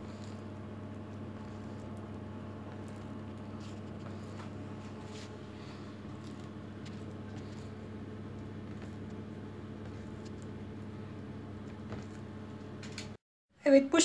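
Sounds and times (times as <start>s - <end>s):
hands folding and pressing dough: 0.0s - 13.2s
steady low hum: 0.0s - 13.2s.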